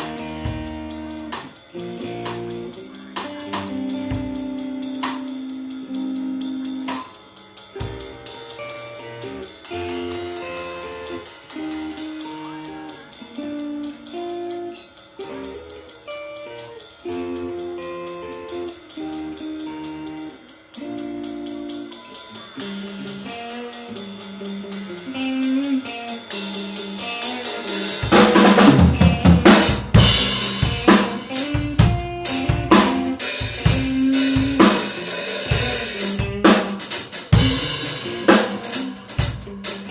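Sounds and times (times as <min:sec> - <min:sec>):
cymbal ticking: 0:00.0 - 0:39.9
drum kit playing: 0:00.0 - 0:39.9
guitar melody: 0:00.0 - 0:39.9.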